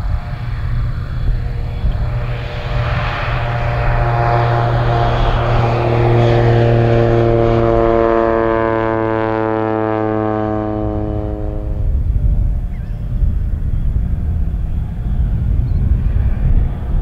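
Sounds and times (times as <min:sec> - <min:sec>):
propeller plane passing overhead: 0:00.0 - 0:17.0.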